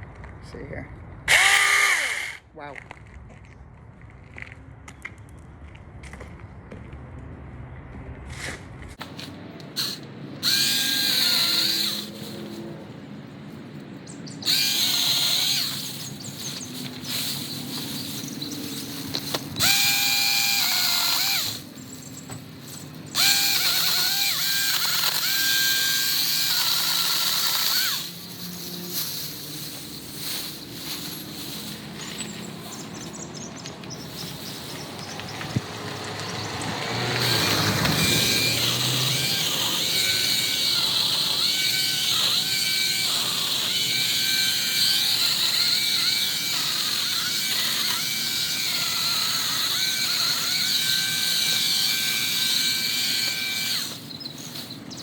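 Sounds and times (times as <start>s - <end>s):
mini chainsaw cutting branches: 1.3s - 2.4s, 9.0s - 13.0s, 14.4s - 55.0s.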